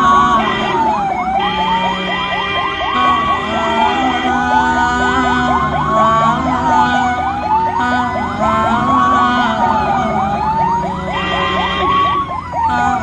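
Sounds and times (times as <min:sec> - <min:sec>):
ambulance siren wail: 0:00.0 - 0:13.0
ambulance siren yelp: 0:00.0 - 0:13.0.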